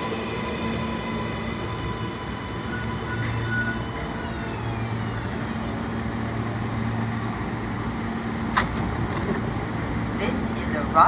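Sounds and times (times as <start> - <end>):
low hum of standing train: 0.0 - 11.0
train motors whining down: 0.0 - 11.0.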